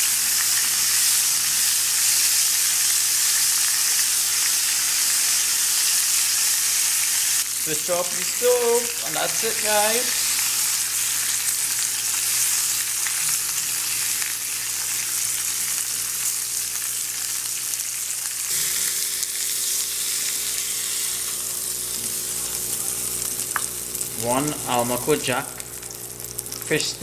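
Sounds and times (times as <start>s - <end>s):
fish sizzling in a grill pan: 0.0s - 27.0s.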